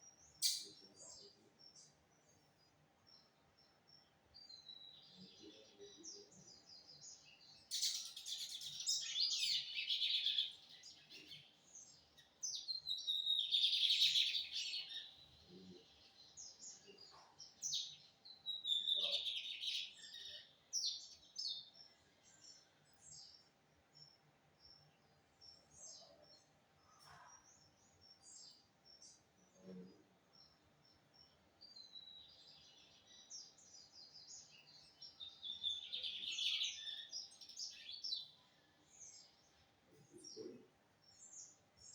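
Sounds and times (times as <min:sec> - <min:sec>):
soft bird chirps: 0:00.0 - 0:41.9.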